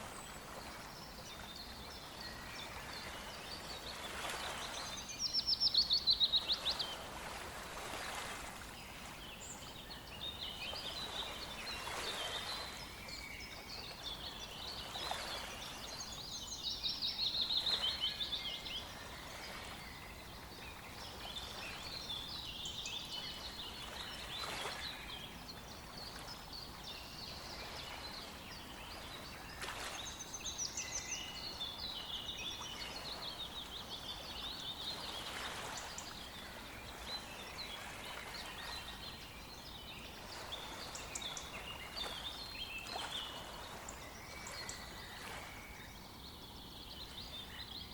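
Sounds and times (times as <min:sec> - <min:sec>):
songbirds singing and calling: 0:00.0 - 0:47.9.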